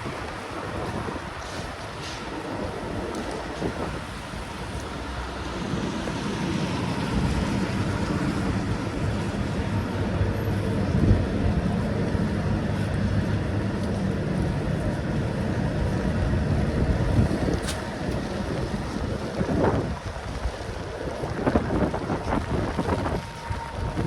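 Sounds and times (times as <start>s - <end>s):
road noise: 0.0s - 24.0s
vehicle engine humming: 0.0s - 24.0s.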